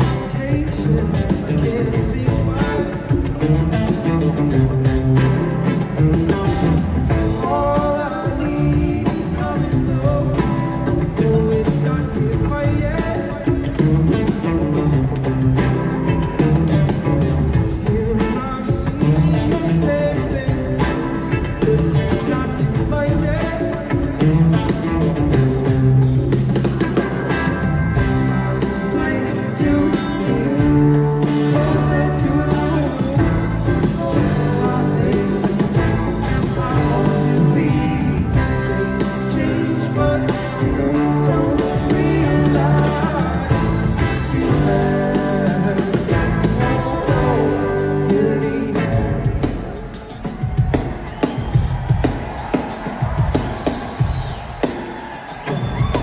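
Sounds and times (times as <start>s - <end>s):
bass: 0.0s - 56.0s
drums: 0.0s - 56.0s
electric guitar: 0.0s - 56.0s.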